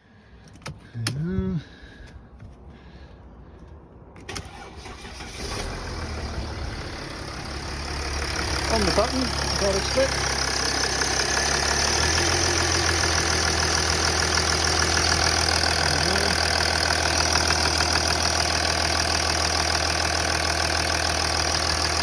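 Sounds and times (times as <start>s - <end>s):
diesel engine idling: 4.3s - 22.0s.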